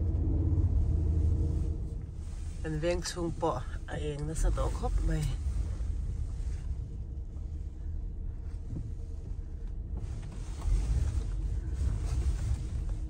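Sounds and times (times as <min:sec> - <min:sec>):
car driving low rumble: 0:00.0 - 0:13.0.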